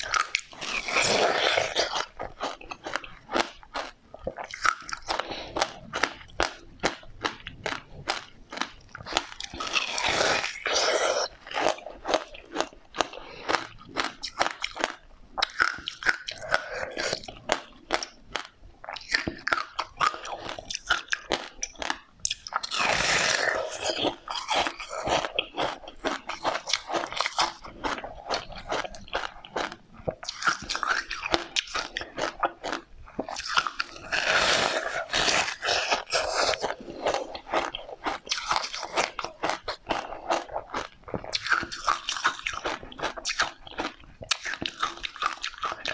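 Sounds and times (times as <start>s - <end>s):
person chewing crunchy fruit: 0.0s - 45.9s.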